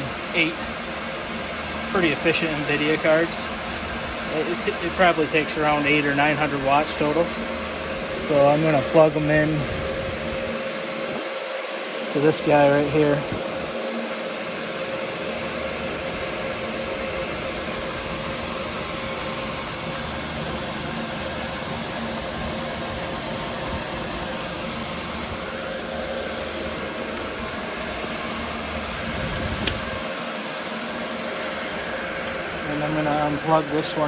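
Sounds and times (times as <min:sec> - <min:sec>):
cooling fans humming: 0:00.0 - 0:34.0.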